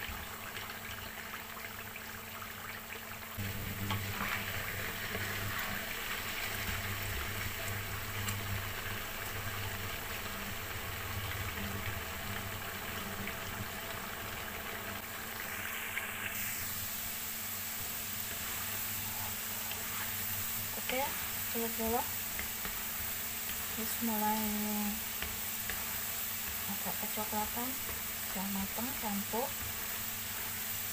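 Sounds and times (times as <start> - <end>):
potatoes sizzling in oil: 0.0 - 30.9.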